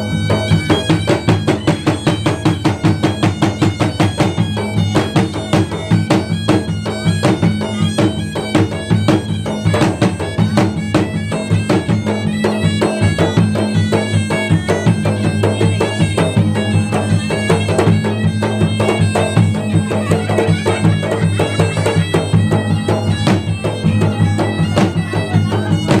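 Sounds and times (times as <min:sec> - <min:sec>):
drums beaten in fast rhythm: 0:00.0 - 0:26.0.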